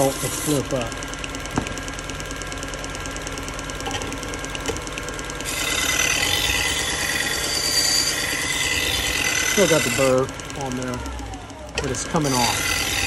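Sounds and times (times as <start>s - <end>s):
belt sharpener motor humming: 0.0s - 13.0s.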